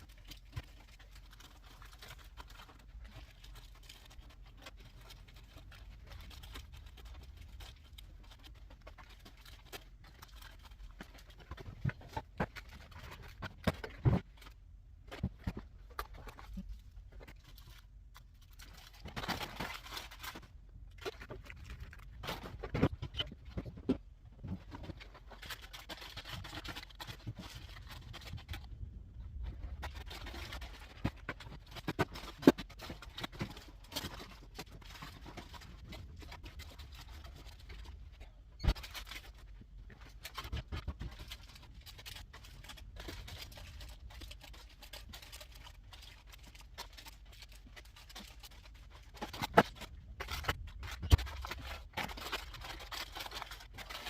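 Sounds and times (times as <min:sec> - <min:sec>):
packaging rustling: 0:00.0 - 0:54.0.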